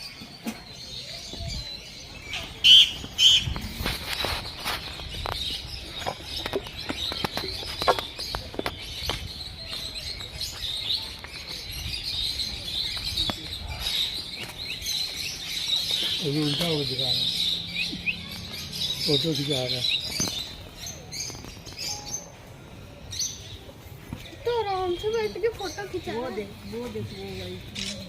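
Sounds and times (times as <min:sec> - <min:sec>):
sharp bird calls: 0:00.0 - 0:23.6
caged birds twittering: 0:00.0 - 0:28.0.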